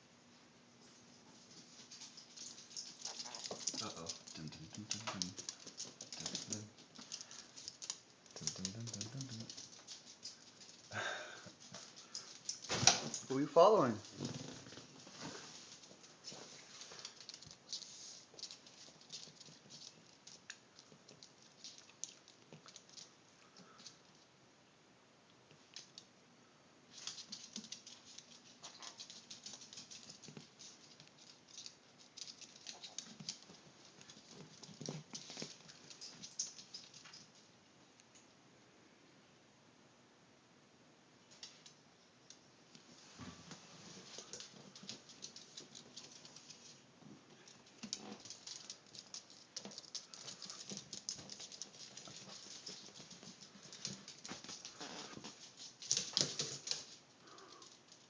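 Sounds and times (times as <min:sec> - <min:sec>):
pet claws clicking on hard floor: 0:01.4 - 0:13.3, 0:14.0 - 0:24.2, 0:26.9 - 0:37.4, 0:43.5 - 0:58.0.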